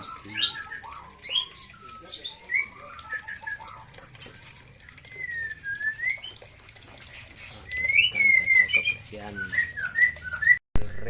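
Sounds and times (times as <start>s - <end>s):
songbirds whistling and chirping: 0.0s - 11.0s.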